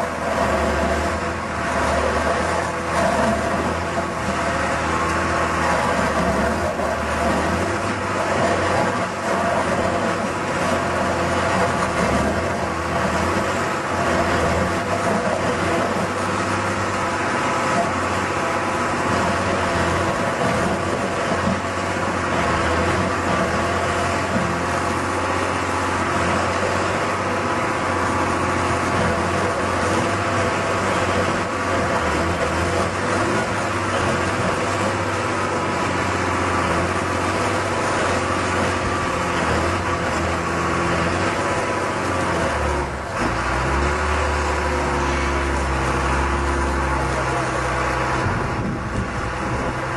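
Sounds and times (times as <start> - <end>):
stump grinder engine running: 0.0 - 49.9.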